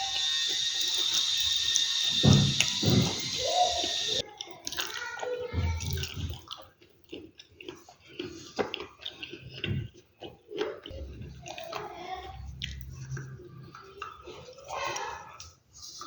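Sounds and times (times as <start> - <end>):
person chewing crunchy food: 0.0 - 5.0, 5.9 - 16.0.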